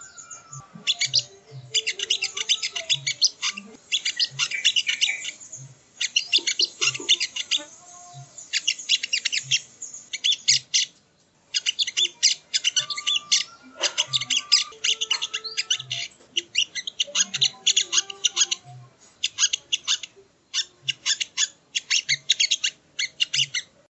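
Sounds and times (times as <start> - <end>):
bird song chattering: 0.0 - 23.8.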